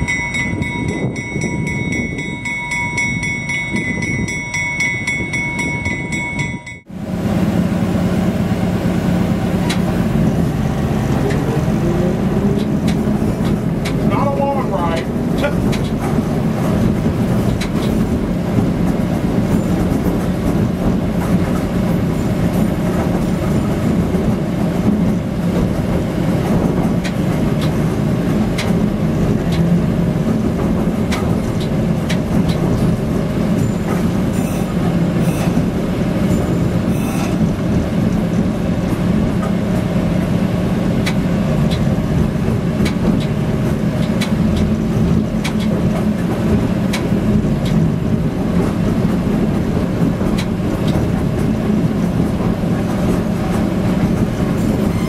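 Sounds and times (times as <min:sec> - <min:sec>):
locomotive diesel engine droning: 0:00.0 - 0:55.0
wheels and cab clicking and rattling: 0:00.0 - 0:55.0.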